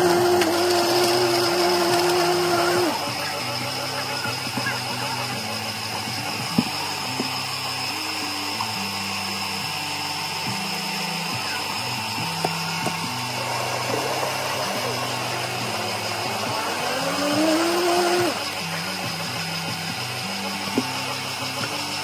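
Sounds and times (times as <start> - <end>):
drink equipment whirring hum: 0.0 - 22.0.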